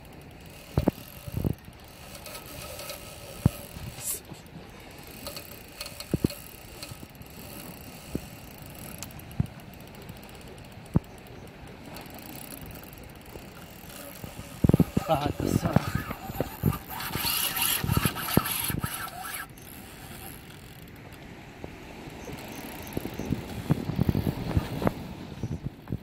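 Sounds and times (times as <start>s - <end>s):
fishing reel ratcheting: 0.0s - 21.1s.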